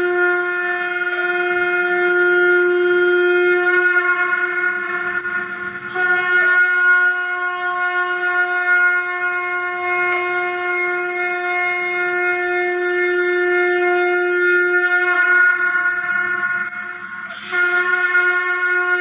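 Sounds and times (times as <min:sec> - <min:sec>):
conch shell blown: 0:00.0 - 0:19.0.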